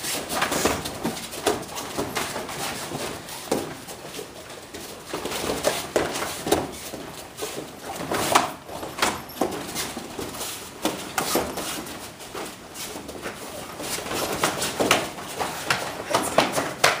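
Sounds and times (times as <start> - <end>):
bare feet stamping on mats: 0.0 - 17.0.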